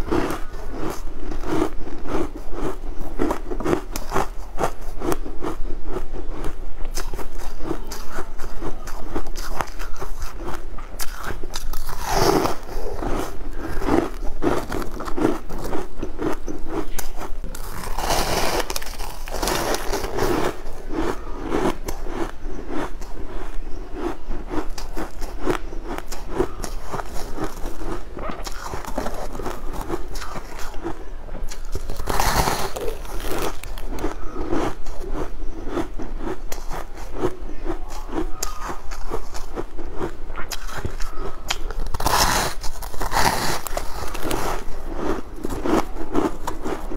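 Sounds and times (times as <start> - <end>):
crunching crushed ice: 0.1 - 46.9.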